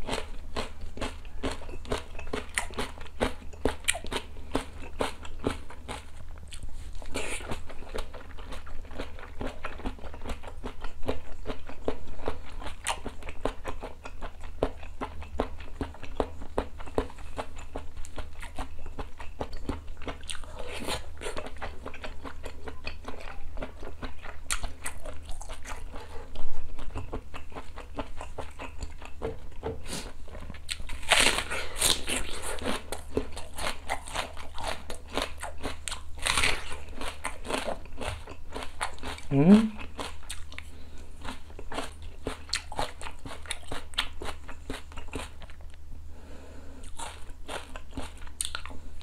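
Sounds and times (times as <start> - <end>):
wet chewing and lip-smacking: 0.0 - 45.8, 46.8 - 48.9.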